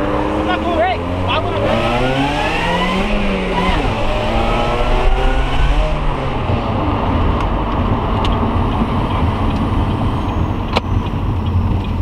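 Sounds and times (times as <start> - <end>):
car engine accelerating: 0.0 - 12.0
road noise: 0.0 - 12.0.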